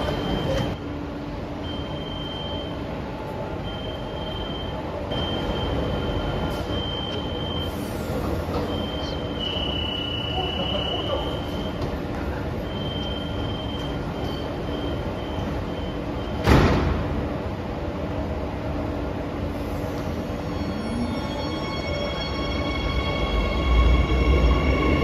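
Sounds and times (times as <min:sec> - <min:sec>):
train equipment hum: 0:00.0 - 0:25.0.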